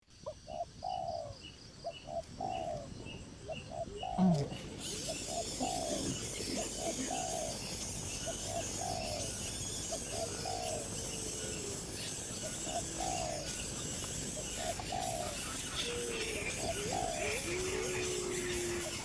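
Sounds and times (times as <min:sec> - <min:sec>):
dove cooing: 0:00.3 - 0:19.0.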